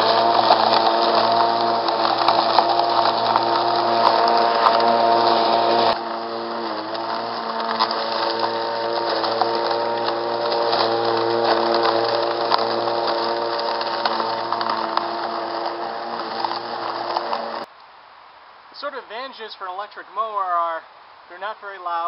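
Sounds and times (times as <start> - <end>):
clippings crackling against blade: 0.0 - 17.7
electric lawnmower motor whine: 0.0 - 17.7.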